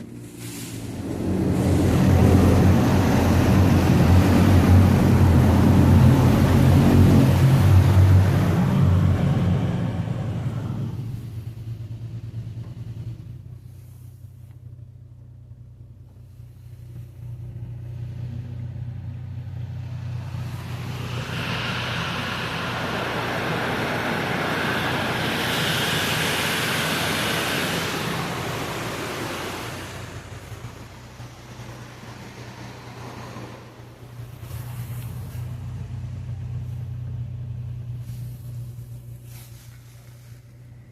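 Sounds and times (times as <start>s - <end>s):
car wash rushing hiss: 0.0s - 14.5s, 16.2s - 40.9s
steady low hum: 0.0s - 40.9s.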